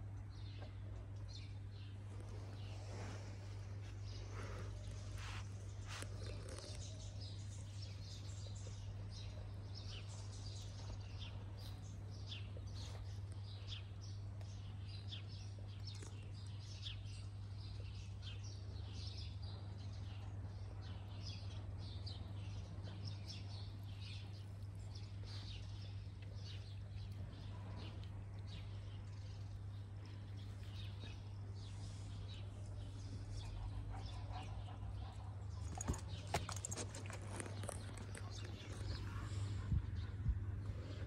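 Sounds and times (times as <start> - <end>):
small birds chirping: 0.0 - 41.0
steady low hum: 0.0 - 41.0.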